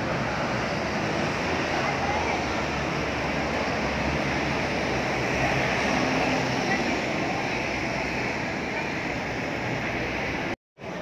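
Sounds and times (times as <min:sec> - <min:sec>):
street traffic hum: 0:00.0 - 0:11.0
faint voices: 0:01.0 - 0:11.0.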